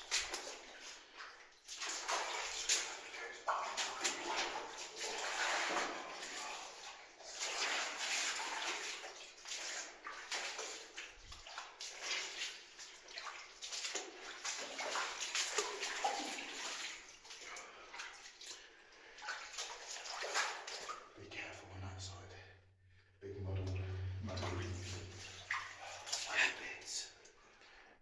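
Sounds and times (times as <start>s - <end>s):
footsteps splashing through water: 0.0s - 21.2s, 23.6s - 26.8s.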